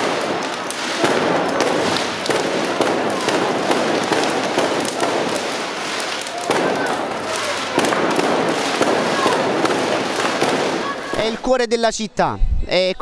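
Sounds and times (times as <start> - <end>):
fireworks crackling pops: 0.0 - 11.4.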